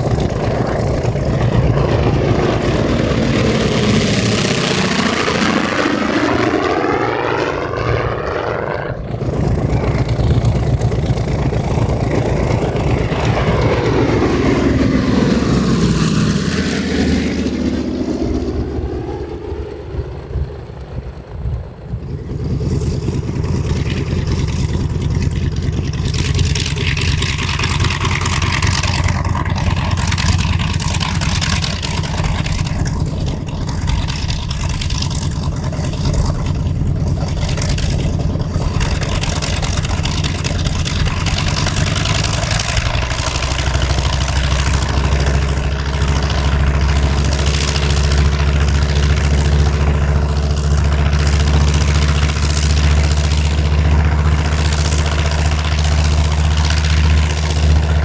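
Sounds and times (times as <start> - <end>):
radial aircraft engine running: 0.0 - 58.0.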